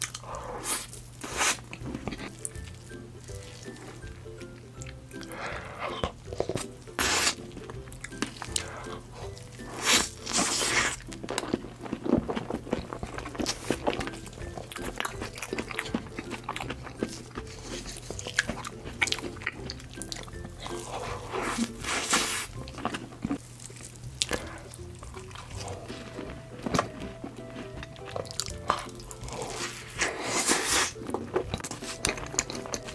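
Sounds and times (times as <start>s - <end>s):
cake being bitten and chewed: 0.0s - 32.9s
soft background music: 0.4s - 32.9s.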